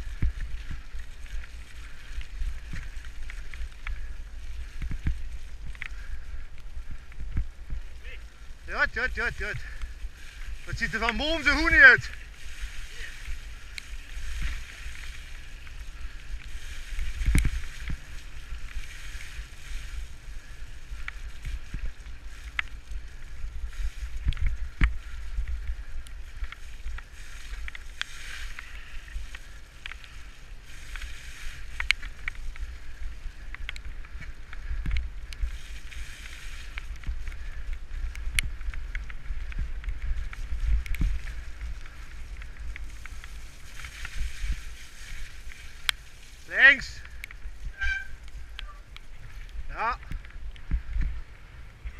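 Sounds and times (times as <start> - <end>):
wind buffeting microphone: 0.0 - 29.6, 30.6 - 51.9
bicycle tyres rolling through mud: 0.0 - 51.9.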